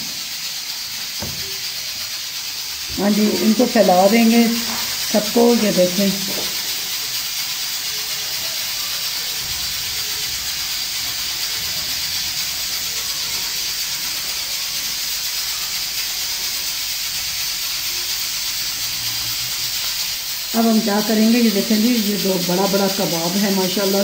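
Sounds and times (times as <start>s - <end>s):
pressure cooker venting steam: 0.0s - 24.0s.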